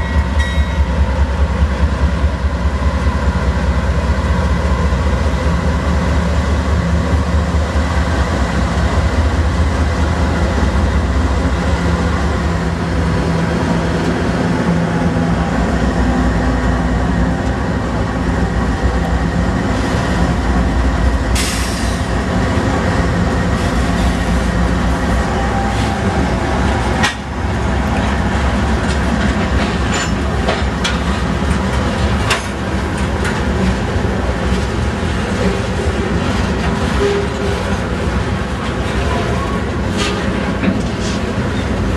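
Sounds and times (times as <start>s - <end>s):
diesel locomotives running: 0.0s - 41.9s
train wheels clicking on rail joints: 0.0s - 41.9s.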